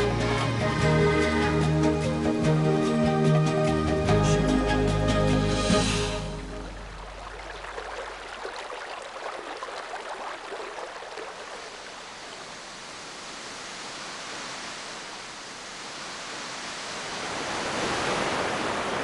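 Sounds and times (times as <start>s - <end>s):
stream rushing and babbling: 0.0s - 19.0s.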